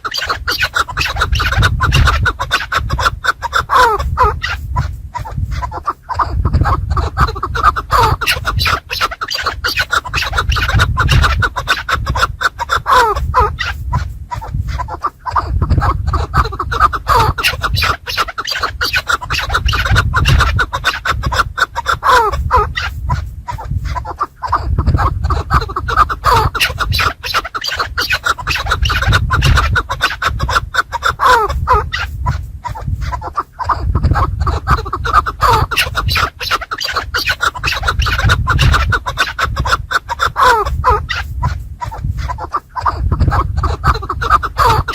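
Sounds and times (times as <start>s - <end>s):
partridges chucking calls: 0.0s - 44.9s
scratching and rustling: 0.0s - 44.9s
steady low rumble: 0.8s - 8.9s, 9.5s - 18.1s, 19.2s - 27.2s, 28.3s - 36.4s, 37.1s - 44.9s.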